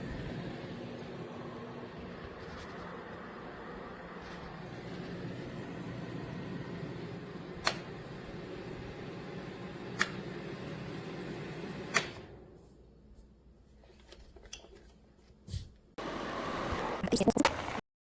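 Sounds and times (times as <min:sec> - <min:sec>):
space heater fan humming: 0:00.0 - 0:17.8.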